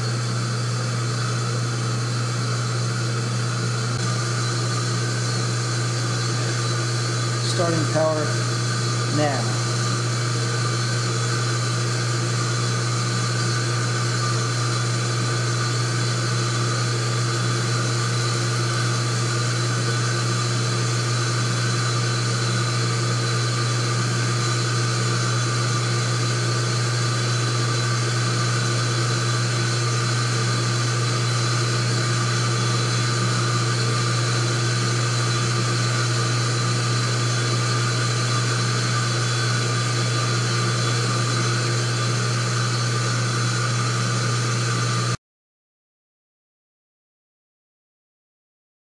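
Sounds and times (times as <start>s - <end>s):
induction heater humming: 0.0s - 45.2s.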